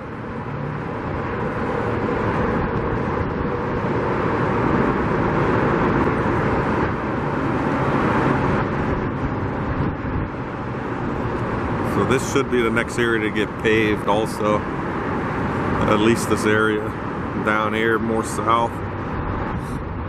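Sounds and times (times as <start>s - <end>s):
motor traffic drone: 0.0s - 20.0s.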